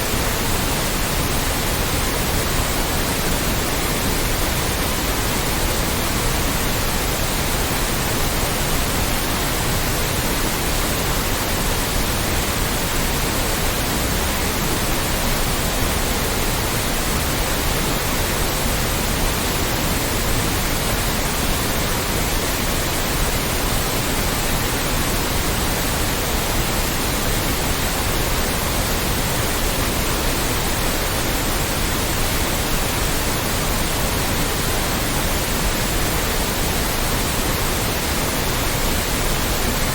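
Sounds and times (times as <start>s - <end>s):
synthetic white noise: 0.0s - 39.9s.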